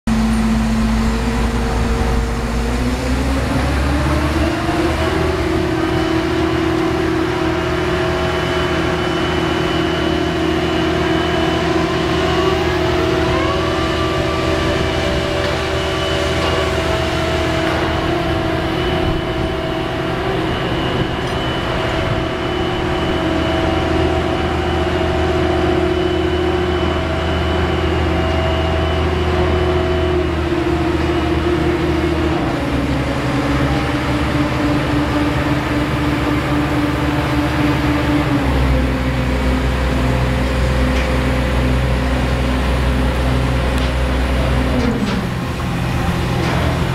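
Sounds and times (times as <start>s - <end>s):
crane engine revving: 0.1s - 46.9s.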